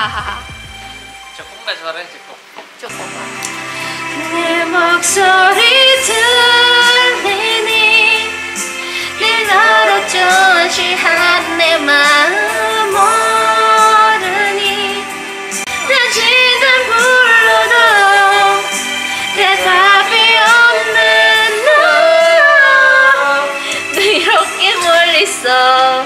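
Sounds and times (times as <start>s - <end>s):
karaoke backing track: 0.0s - 26.0s
woman singing pop ballad: 2.9s - 26.0s.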